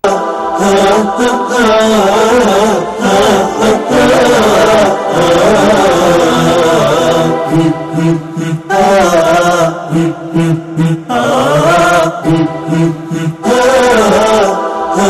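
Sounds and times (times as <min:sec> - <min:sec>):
solo voice chanting: 0:00.0 - 0:15.0
steady low notes: 0:00.4 - 0:14.0.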